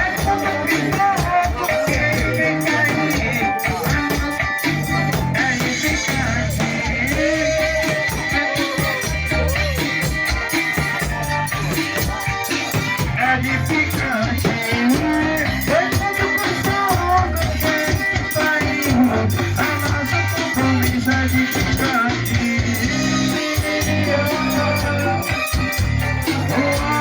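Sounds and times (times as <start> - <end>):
pulsing bass line: 0.0 - 27.0
shaker rhythm: 0.0 - 27.0.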